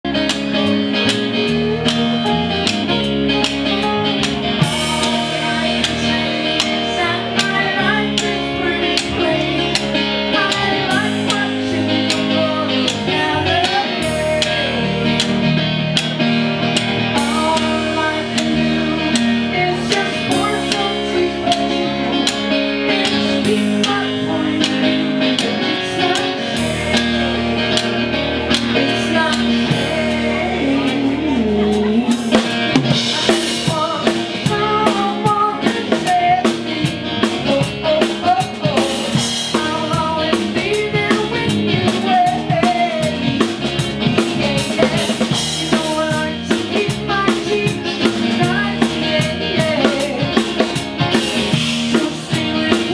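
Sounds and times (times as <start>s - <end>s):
live band playing: 0.0s - 52.9s.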